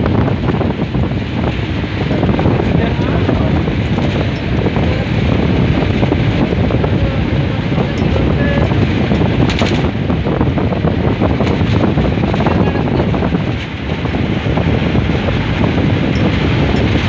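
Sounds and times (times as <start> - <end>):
vehicle rumble on road: 0.0 - 17.0
wind buffeting microphone: 0.0 - 17.0.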